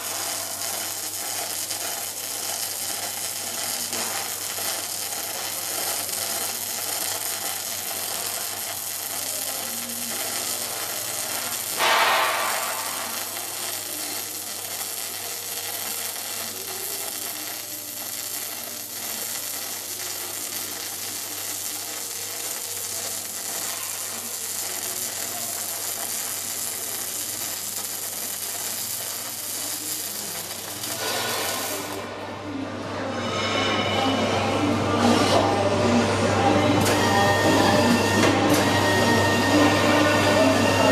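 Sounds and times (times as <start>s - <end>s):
welding arc crackling: 0.0s - 32.2s, 36.8s - 40.9s.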